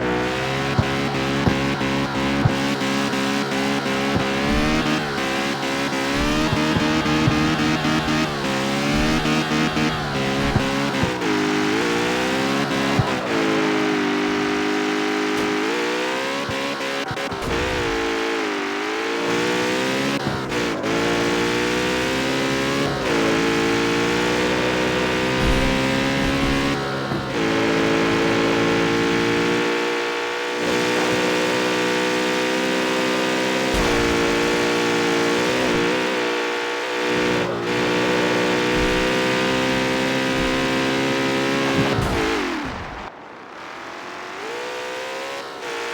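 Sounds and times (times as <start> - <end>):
car engine shifting gears: 0.0 - 45.9.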